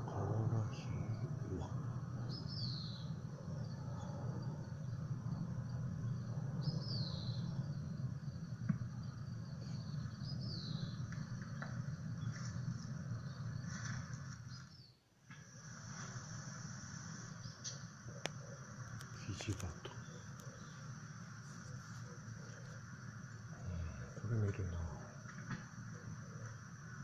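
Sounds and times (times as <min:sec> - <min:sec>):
low hum: 0:00.0 - 0:14.7, 0:15.5 - 0:27.0
insect-like drone: 0:00.0 - 0:27.0.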